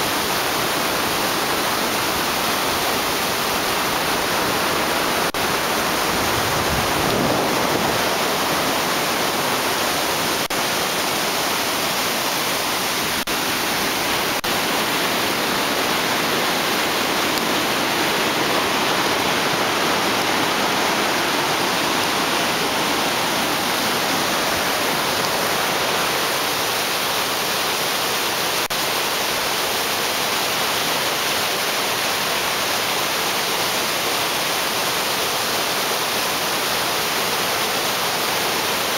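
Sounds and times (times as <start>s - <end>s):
river rushing through rapids: 0.0s - 38.9s.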